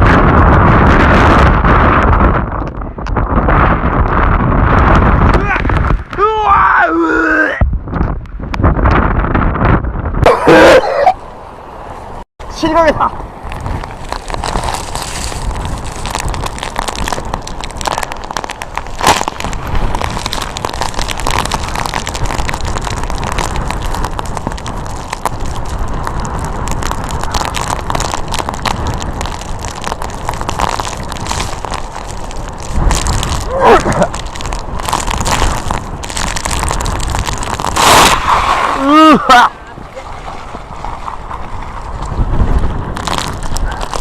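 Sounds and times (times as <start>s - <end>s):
strong wind buffeting microphone: 0.0s - 44.0s.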